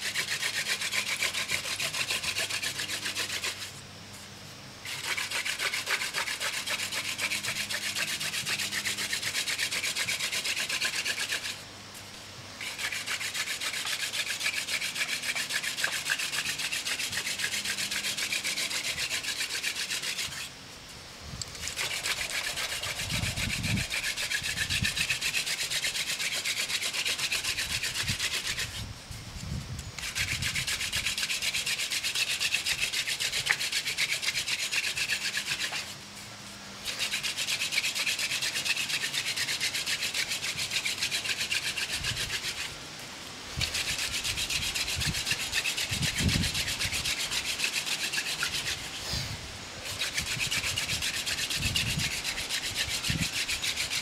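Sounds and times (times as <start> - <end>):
wooden spindle rasping on fireboard: 0.0 - 3.8, 4.8 - 11.6, 12.6 - 20.5, 21.5 - 36.0, 36.8 - 42.8, 43.6 - 54.0.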